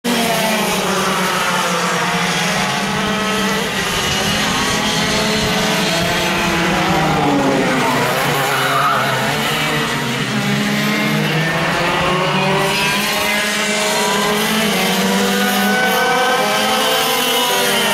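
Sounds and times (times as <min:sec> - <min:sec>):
kart engines buzzing: 0:00.1 - 0:17.9.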